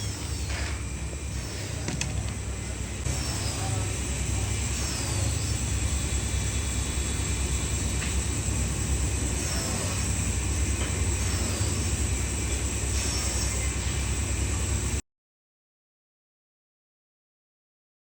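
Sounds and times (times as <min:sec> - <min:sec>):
low mechanical rumble and hum: 0:00.0 - 0:15.0.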